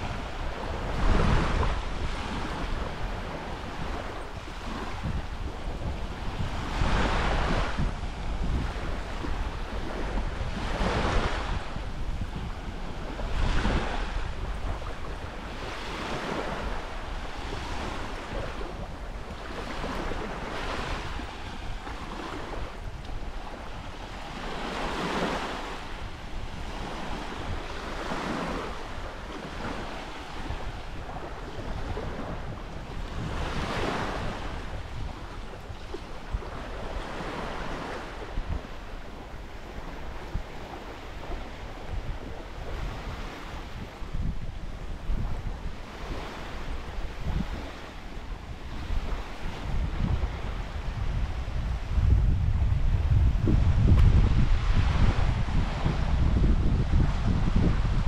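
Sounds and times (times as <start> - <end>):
small waves breaking on beach: 0.0 - 58.0
wind rumbling on microphone: 0.0 - 58.0.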